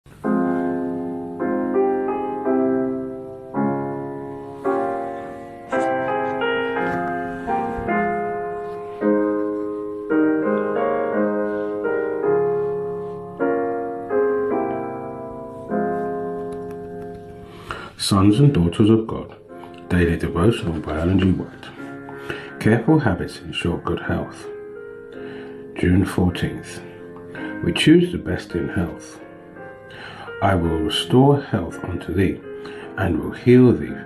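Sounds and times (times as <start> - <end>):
slow solo piano chords: 0.1 - 34.0.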